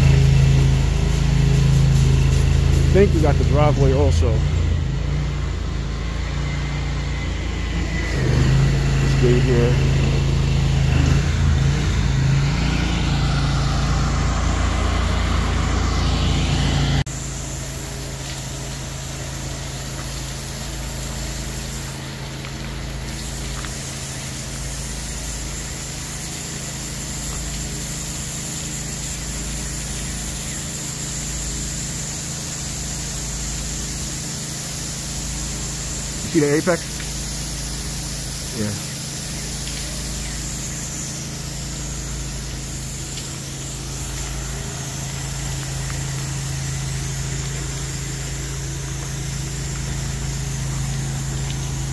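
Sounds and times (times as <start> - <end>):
pressure washer engine running: 0.0 - 51.9
water spray hitting siding: 0.0 - 51.9.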